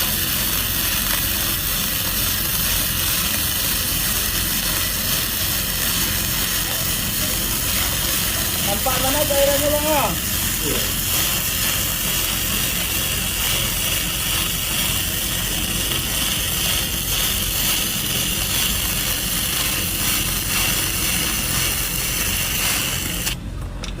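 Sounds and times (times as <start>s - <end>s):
welding arc crackling: 0.0s - 23.5s.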